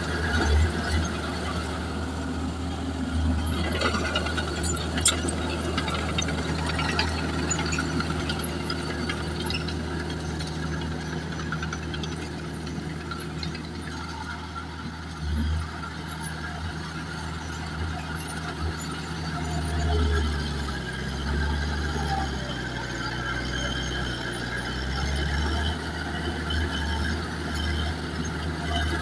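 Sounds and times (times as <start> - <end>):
diesel machine engine drone: 0.0 - 29.0
machine squeaks and clatter: 0.0 - 29.0.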